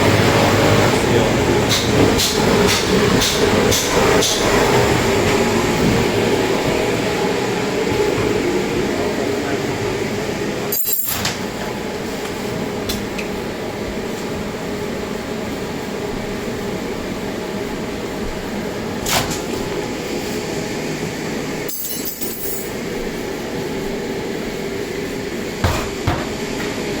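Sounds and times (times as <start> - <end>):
machine hum with low drone: 0.0 - 27.0.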